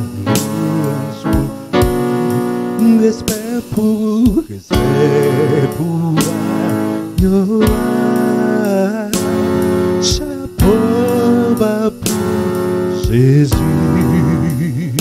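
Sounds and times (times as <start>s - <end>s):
electronic keyboard playing: 0.0s - 15.0s
man singing into a microphone: 0.0s - 15.0s
steady drum beat: 0.0s - 15.0s.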